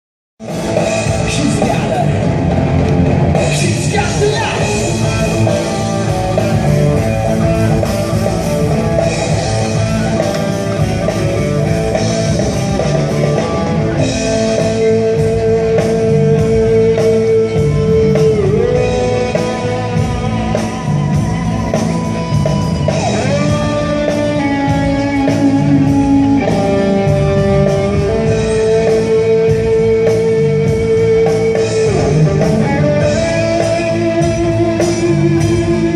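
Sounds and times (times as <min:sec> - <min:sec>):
rock music with guitar and drums: 0:00.4 - 0:35.9.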